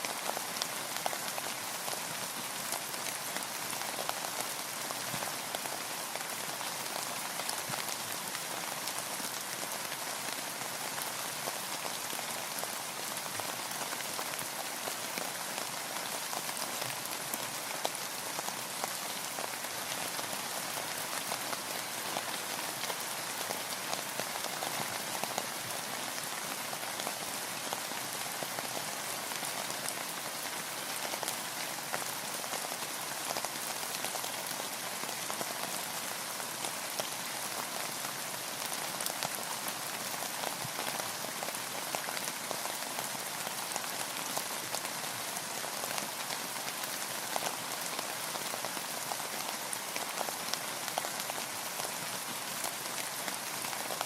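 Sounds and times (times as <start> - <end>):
rain falling on a boat: 0.0 - 54.0.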